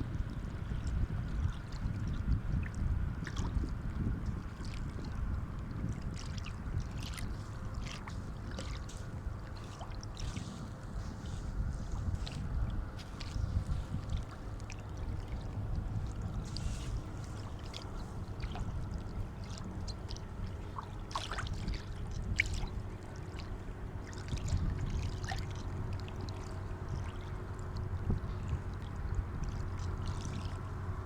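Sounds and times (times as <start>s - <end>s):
sea water washing at shore: 0.0s - 31.0s
water splashes and drips: 0.3s - 30.8s.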